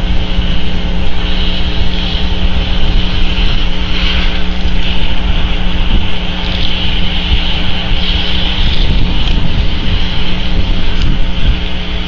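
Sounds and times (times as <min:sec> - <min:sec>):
constant hiss: 0:00.0 - 0:12.0
electrical hum: 0:00.0 - 0:12.0
wind buffeting microphone: 0:00.0 - 0:12.0.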